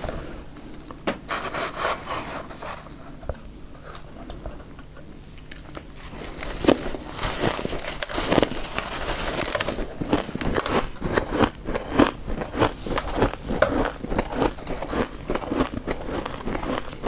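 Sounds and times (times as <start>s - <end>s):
spoon scraping and crunching frost: 0.0s - 4.6s, 5.4s - 17.0s.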